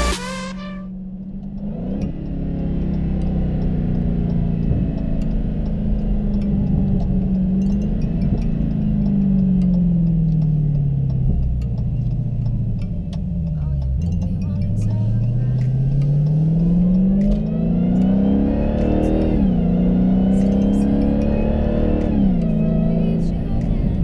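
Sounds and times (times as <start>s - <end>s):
car engine revving while driving: 0.0s - 24.0s.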